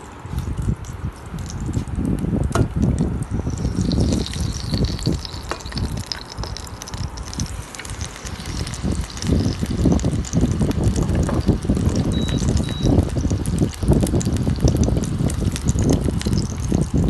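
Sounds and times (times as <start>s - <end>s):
onion rings frying in oil: 0.3s - 17.0s
high hiss of frying: 2.8s - 17.0s.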